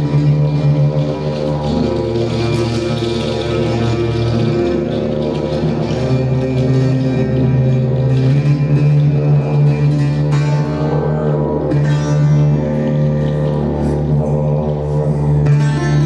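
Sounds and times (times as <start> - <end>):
didgeridoo drone: 0.0 - 16.0
live ensemble music: 0.0 - 16.0.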